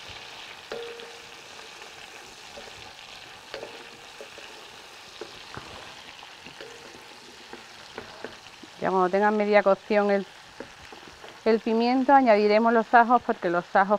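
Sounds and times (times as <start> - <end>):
food sizzling in oil: 0.0 - 13.9
wooden spoon knocking and scraping pan: 0.7 - 12.1.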